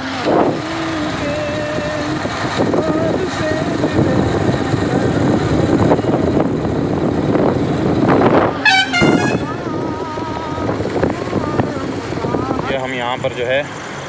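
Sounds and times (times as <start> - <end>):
motorcycle engine running: 0.0 - 13.2
road and wind noise: 0.0 - 14.0.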